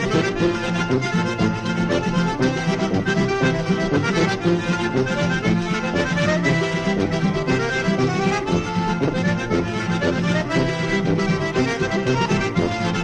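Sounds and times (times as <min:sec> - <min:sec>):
accordion playing lively tune: 0:00.0 - 0:13.0.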